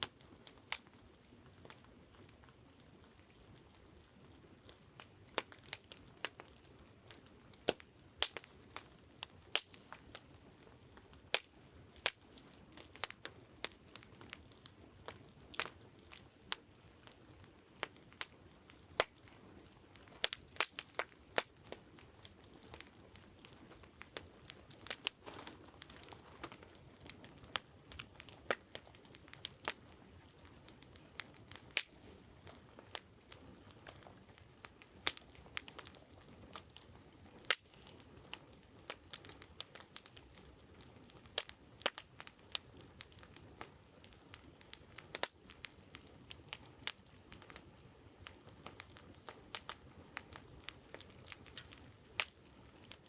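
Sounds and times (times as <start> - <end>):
campfire crackling and popping: 0.0 - 53.0
faint steady hiss: 0.0 - 53.0.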